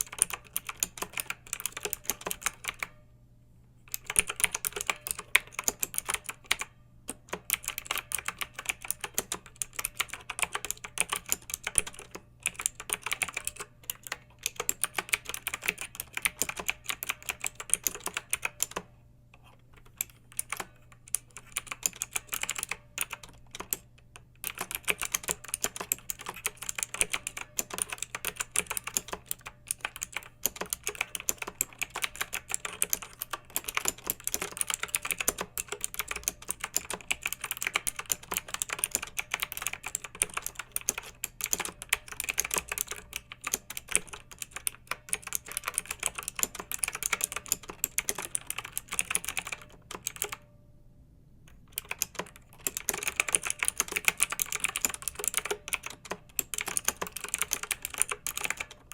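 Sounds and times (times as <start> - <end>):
typing on clicky keyboard: 0.0 - 3.0, 3.9 - 50.5, 51.5 - 58.9.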